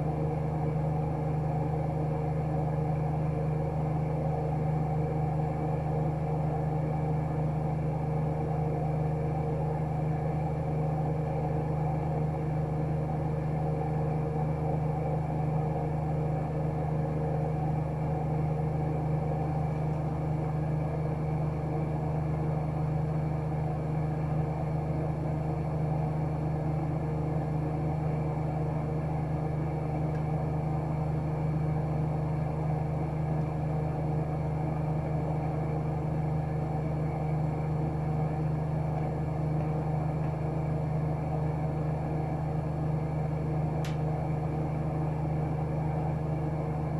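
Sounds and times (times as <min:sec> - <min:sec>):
washing machine spinning: 0:00.0 - 0:46.9.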